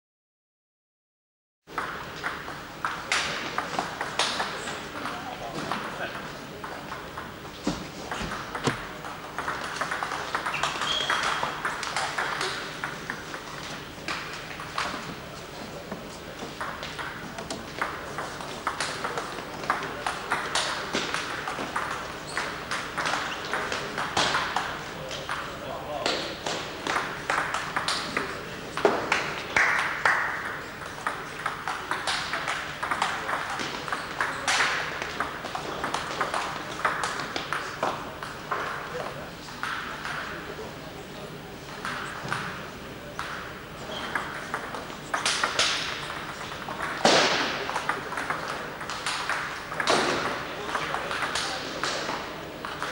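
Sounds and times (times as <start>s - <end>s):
table tennis balls clicking: 1.8s - 7.4s, 8.1s - 25.4s, 26.4s - 40.4s, 41.7s - 52.9s.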